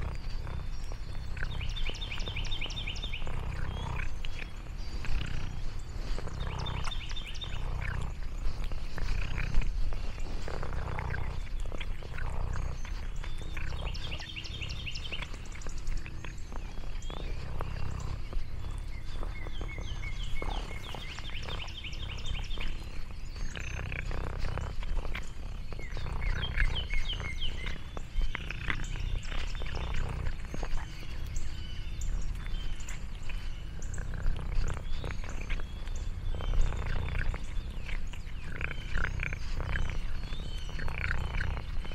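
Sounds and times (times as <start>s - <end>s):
birds chirping: 0.0s - 41.9s
cat purring: 0.0s - 41.9s.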